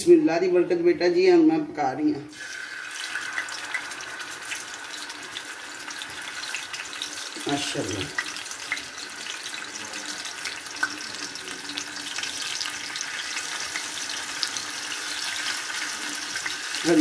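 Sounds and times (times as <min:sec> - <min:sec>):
skewers sizzling in oil: 0:02.3 - 0:17.0.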